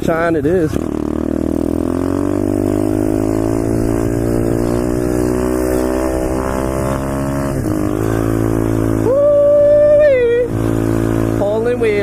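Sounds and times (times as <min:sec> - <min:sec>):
small motorbike engine running: 0:00.1 - 0:12.0.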